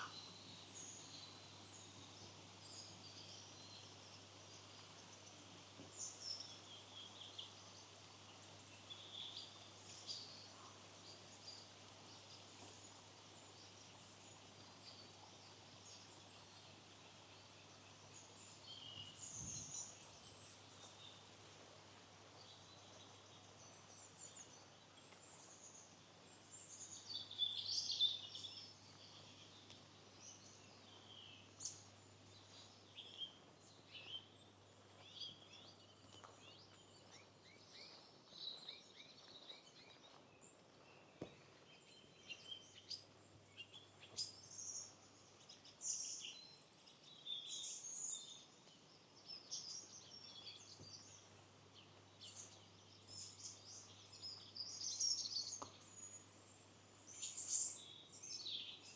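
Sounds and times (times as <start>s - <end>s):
faint steady hiss: 0.0s - 58.9s
small birds chirping: 0.0s - 58.9s.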